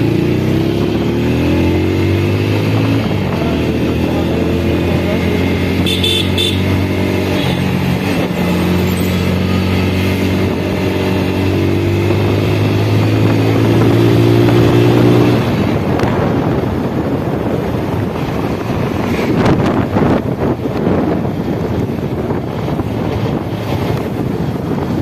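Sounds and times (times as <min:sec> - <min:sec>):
wind rush on microphone: 0:00.0 - 0:06.0, 0:06.6 - 0:25.0
motorcycle engine accelerating: 0:00.0 - 0:25.0.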